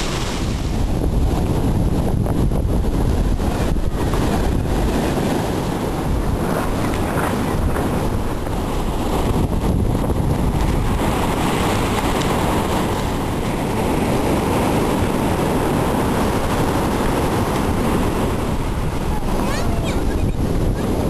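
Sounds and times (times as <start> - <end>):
ocean surf on a beach: 0.0 - 21.0
wind buffeting the microphone: 0.0 - 21.0.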